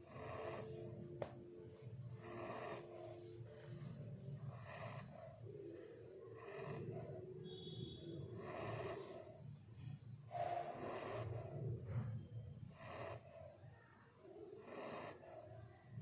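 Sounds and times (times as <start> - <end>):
puppy snoring: 0.0 - 16.0.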